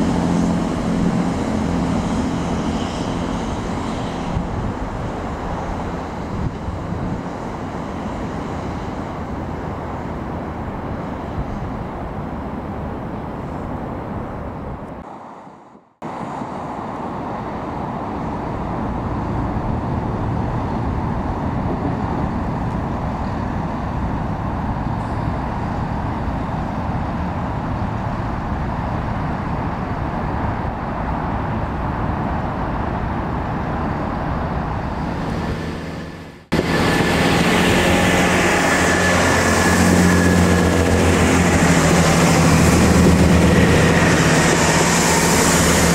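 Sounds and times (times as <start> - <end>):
distant traffic rumble: 0.0 - 45.9
train running past: 0.0 - 45.9.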